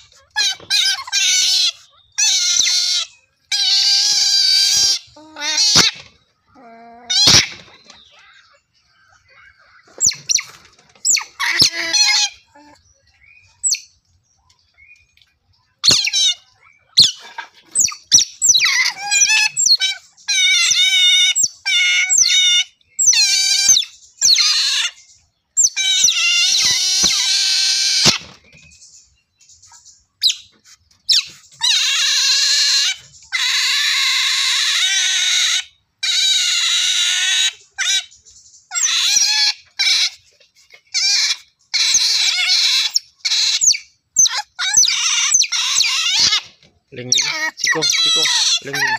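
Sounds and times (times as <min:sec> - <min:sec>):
otters chirping and squealing: 0:00.0 - 0:48.9.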